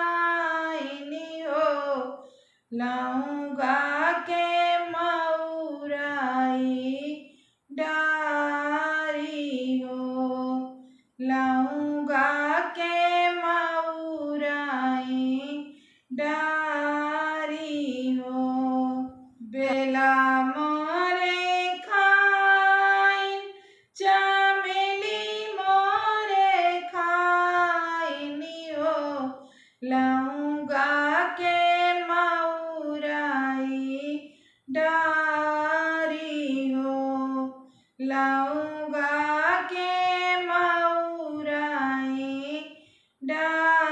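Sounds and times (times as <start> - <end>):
woman singing unaccompanied: 0.0 - 43.9.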